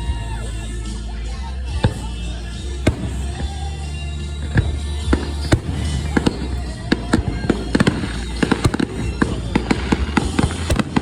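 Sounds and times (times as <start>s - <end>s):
steady low drone: 0.3s - 11.0s
fireworks cracking and popping: 1.8s - 11.0s.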